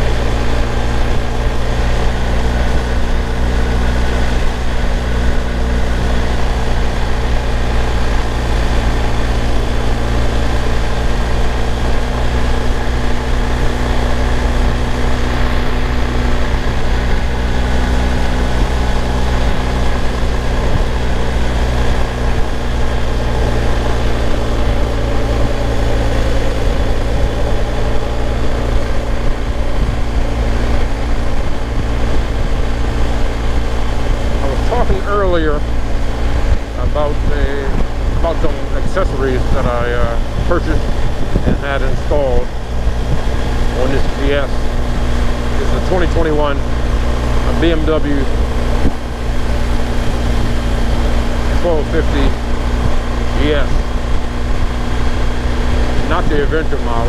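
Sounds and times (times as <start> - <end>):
motorcycle engine cruising: 0.0 - 57.0
wind and road rush: 0.0 - 57.0.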